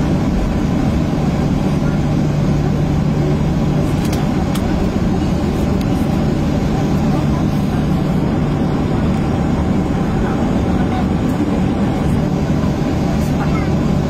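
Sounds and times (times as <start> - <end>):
jet cabin engine hum: 0.0 - 14.0.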